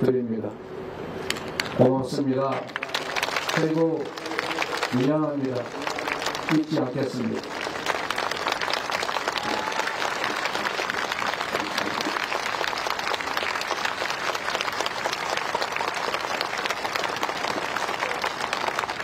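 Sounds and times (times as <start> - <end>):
audience applauding: 2.6 - 19.0.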